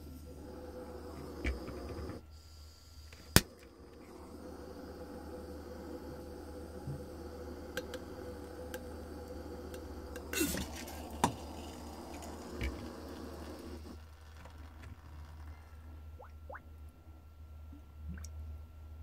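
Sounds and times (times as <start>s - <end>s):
butane torch flame hissing: 0.0s - 16.0s.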